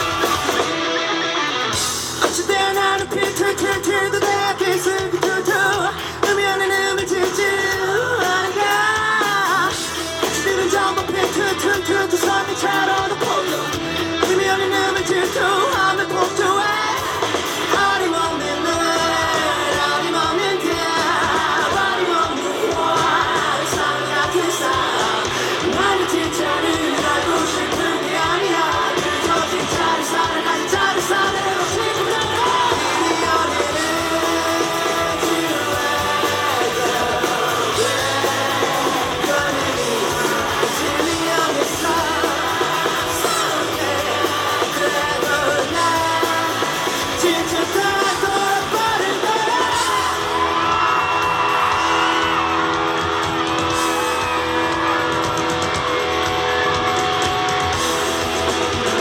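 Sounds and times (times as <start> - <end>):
pop-rock band playing: 0.0 - 59.0
man singing: 2.1 - 52.9.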